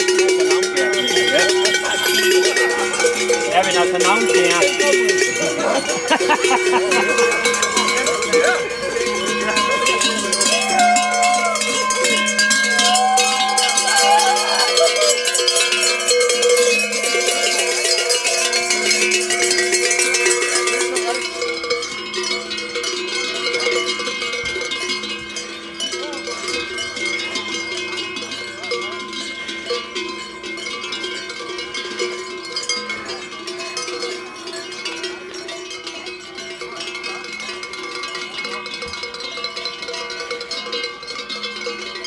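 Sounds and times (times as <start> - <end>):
cowbells clanging and jangling: 0.0 - 42.0.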